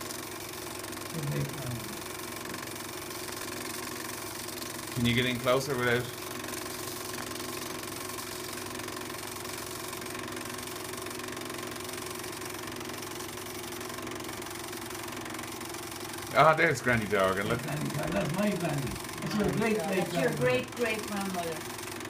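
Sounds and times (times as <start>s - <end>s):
film projector whirring: 0.0s - 22.0s.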